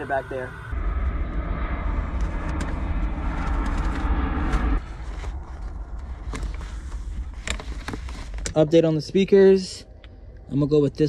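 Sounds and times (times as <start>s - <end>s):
car engine rumbling: 0.0s - 10.2s.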